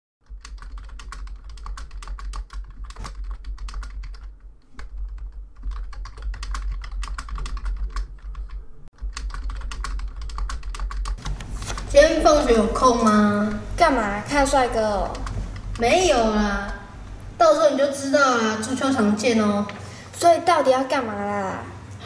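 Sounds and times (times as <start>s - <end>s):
steady low hum: 0.4s - 22.0s.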